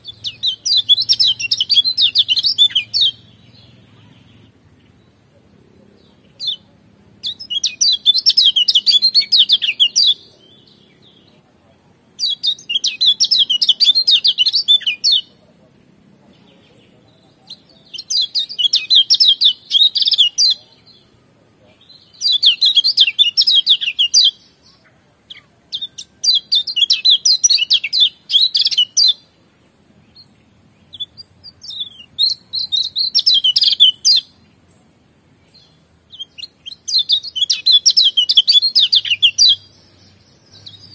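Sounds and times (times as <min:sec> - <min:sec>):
bird twittering: 0:00.0 - 0:05.0, 0:06.0 - 0:11.4, 0:12.2 - 0:15.4, 0:16.3 - 0:21.1, 0:21.8 - 0:29.3, 0:30.1 - 0:34.5, 0:35.5 - 0:40.9.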